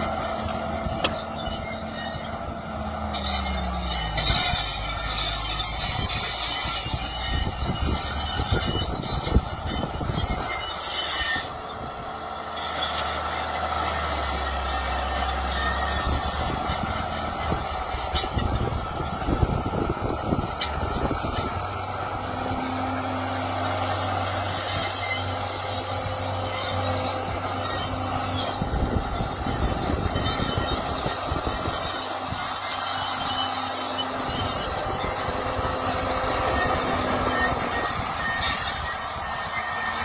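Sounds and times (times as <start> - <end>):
excavator diesel engine: 0.0 - 40.0
metallic squealing: 0.0 - 40.0.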